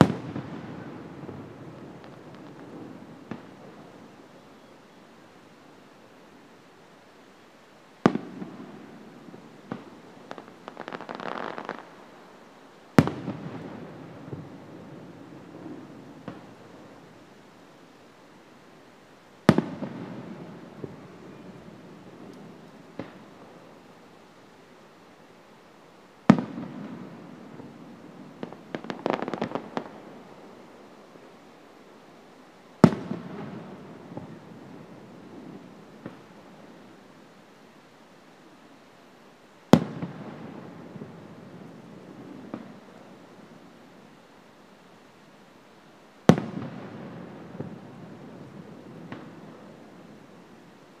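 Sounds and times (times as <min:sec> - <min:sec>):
dense firework crackling: 0:00.0 - 0:05.8, 0:08.0 - 0:17.5, 0:19.3 - 0:24.8, 0:26.1 - 0:37.3, 0:39.7 - 0:44.2, 0:46.2 - 0:51.0.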